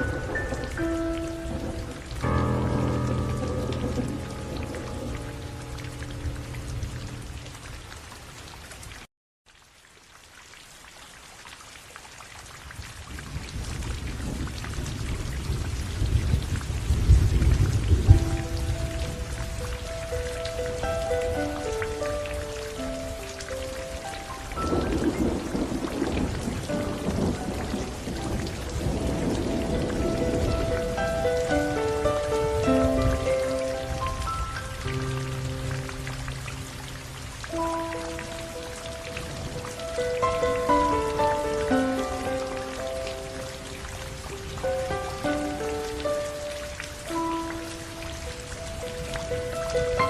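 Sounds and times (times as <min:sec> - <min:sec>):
thunder rumbling: 0:00.0 - 0:08.2, 0:13.2 - 0:46.0
steady rain falling: 0:00.0 - 0:50.0.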